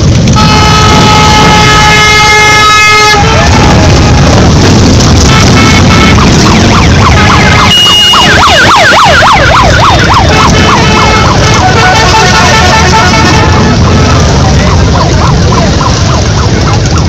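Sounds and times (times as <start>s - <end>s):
motorcycle engines rumbling past: 0.0s - 17.0s
electronic siren yelping: 0.9s - 17.0s.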